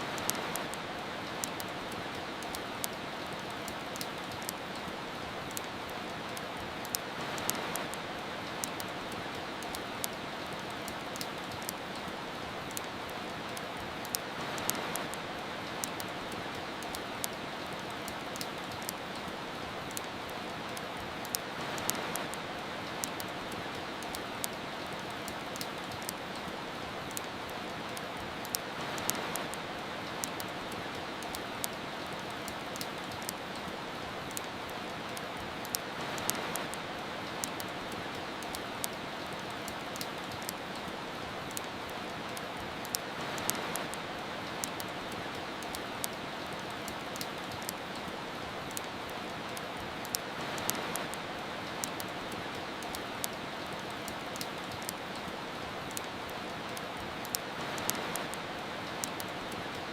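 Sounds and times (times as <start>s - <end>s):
steady rain hiss: 0.0s - 59.9s
wood fire crackling and popping: 0.0s - 59.9s.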